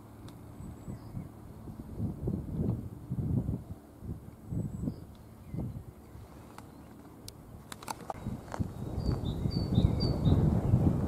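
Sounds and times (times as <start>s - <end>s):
wind rumbling on microphone: 0.4s - 11.0s.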